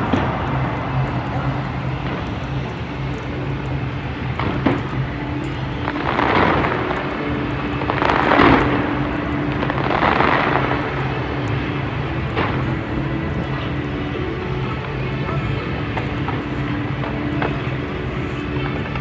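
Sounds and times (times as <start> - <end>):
rumbling fireworks bursts: 0.0 - 19.0.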